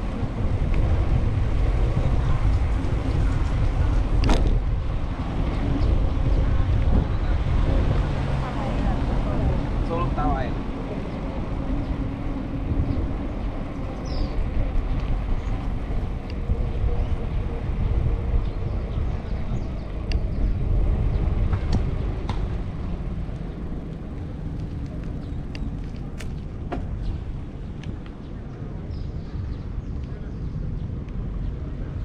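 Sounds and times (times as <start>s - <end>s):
passing vehicles rumbling: 0.0s - 32.0s.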